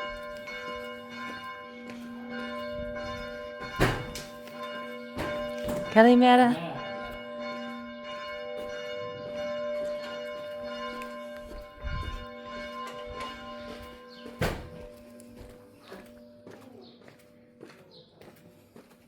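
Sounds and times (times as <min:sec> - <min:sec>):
church bell ringing: 0:00.0 - 0:18.2.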